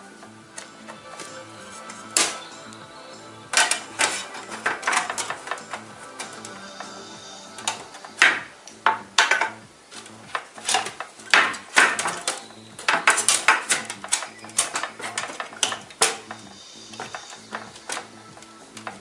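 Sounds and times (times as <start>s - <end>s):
computer parts clicking and clinking: 3.5s - 19.0s.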